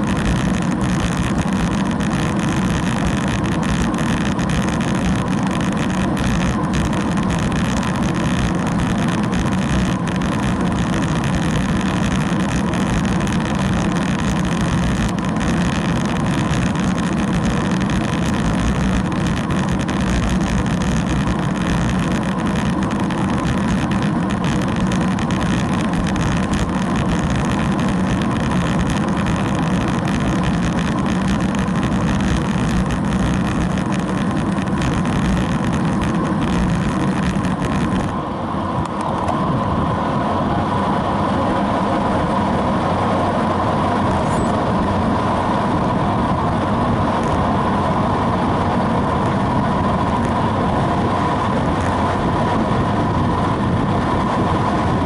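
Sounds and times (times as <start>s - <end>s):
tyre noise on asphalt: 0.0s - 55.0s
wind rushing over camera: 0.0s - 55.0s.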